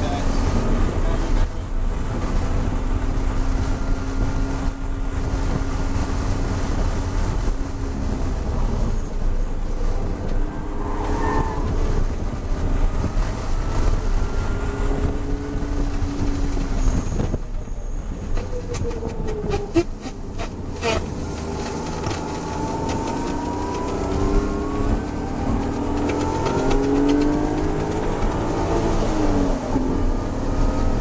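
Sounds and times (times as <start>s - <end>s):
car engine running under load: 0.0s - 31.0s
road and wind rumble: 0.0s - 31.0s.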